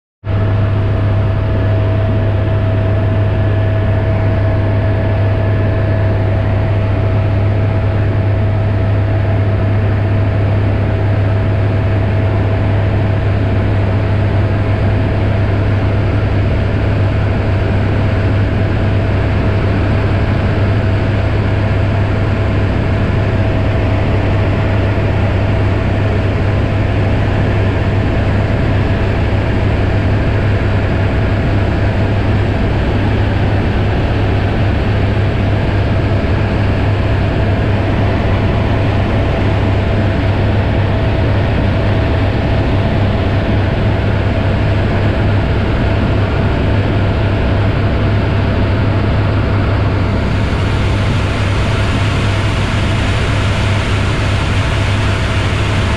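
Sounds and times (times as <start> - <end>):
helicopter engine and rotor drone: 0.2 - 55.9
constant high whine: 0.3 - 55.9.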